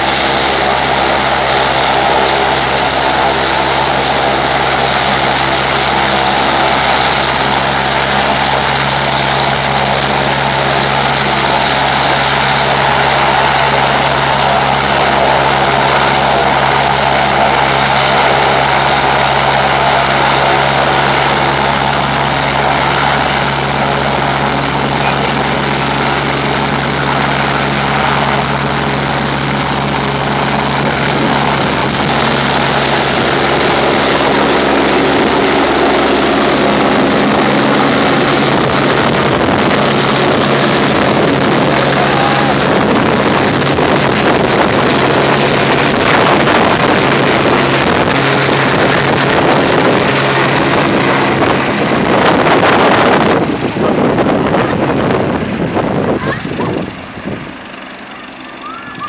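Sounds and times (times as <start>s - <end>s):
helicopter rotor hum: 0.0s - 59.0s
helicopter turbine whine: 0.0s - 59.0s.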